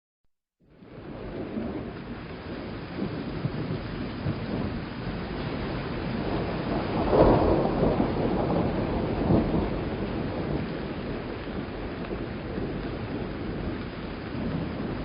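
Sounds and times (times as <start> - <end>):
rolling thunder: 0.7 - 15.0.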